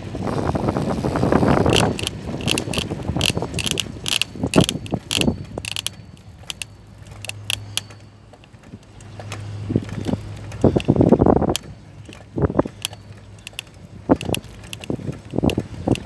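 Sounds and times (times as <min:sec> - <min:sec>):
mechanical clicking: 0:00.0 - 0:16.0
steady low hum: 0:00.0 - 0:16.0.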